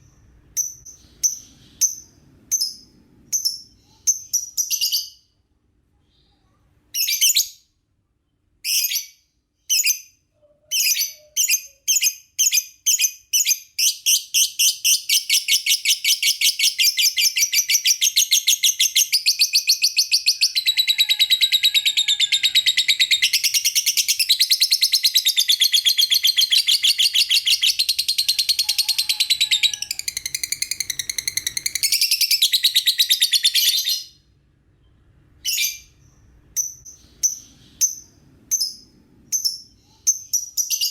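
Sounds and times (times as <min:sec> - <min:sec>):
lovebird chirping: 0:00.0 - 0:05.3, 0:08.6 - 0:40.9.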